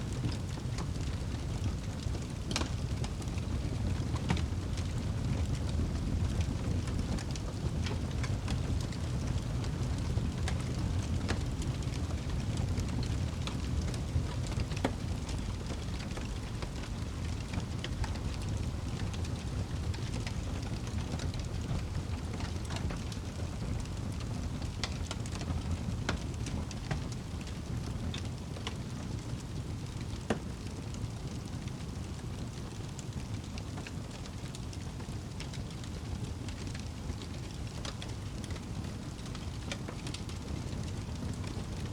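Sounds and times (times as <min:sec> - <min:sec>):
fire rumbling: 0:00.0 - 0:41.9
burning wood crackling: 0:00.1 - 0:41.9.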